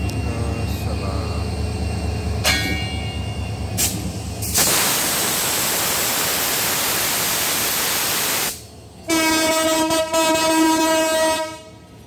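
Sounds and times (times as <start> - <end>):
diesel locomotive hissing past: 0.0 - 12.0.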